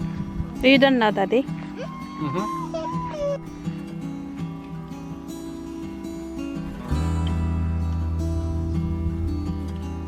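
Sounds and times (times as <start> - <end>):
plucked acoustic guitar music: 0.0 - 10.0.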